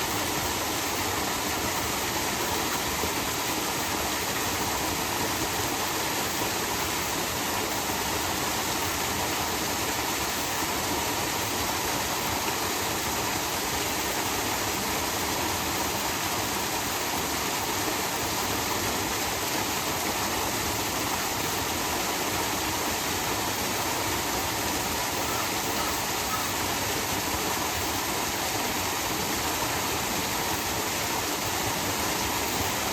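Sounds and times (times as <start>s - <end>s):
waterfall pouring into pool: 0.0s - 32.9s.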